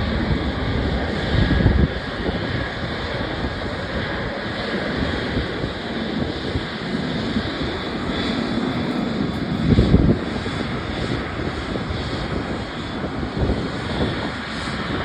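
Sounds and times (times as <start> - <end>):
airliner engines rushing: 0.0 - 15.0
wind gust on microphone: 0.0 - 15.0.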